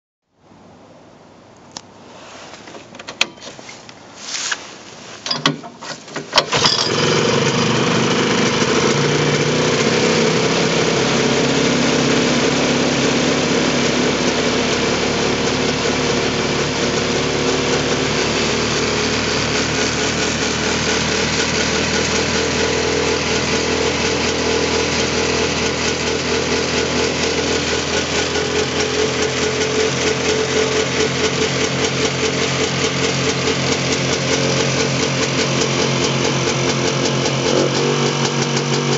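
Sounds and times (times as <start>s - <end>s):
snowmobile engine starting and idling: 6.3s - 38.9s.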